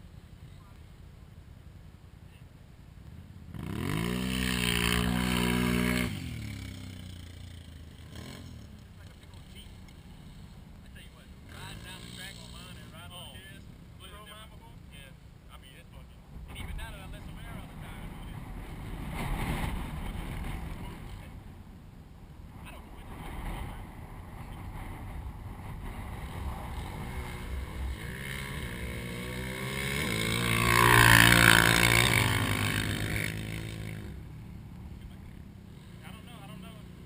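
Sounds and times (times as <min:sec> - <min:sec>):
atv engine at full throttle: 0:03.0 - 0:14.9, 0:16.4 - 0:21.5, 0:22.5 - 0:37.0.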